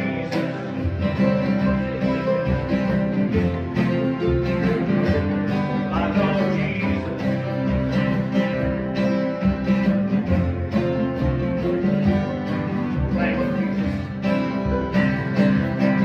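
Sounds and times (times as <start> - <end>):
acoustic guitar: 0.0 - 16.0
bluegrass band playing: 0.0 - 16.0.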